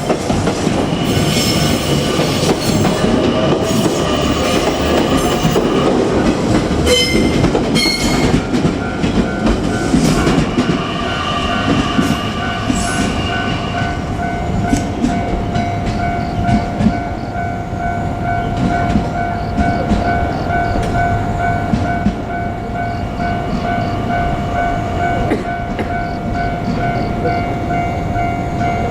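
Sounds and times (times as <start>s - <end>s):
electric train rumbling past: 0.0s - 28.9s
level crossing warning bell: 0.8s - 28.9s.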